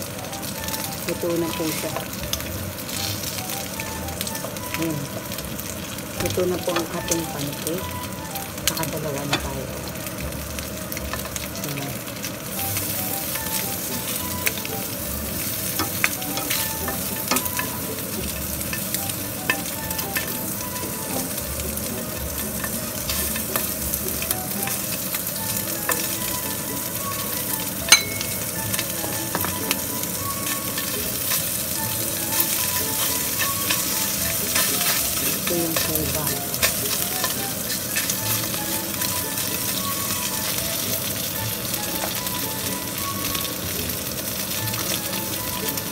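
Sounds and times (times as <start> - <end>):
sausage sizzling in oil: 0.0 - 45.9.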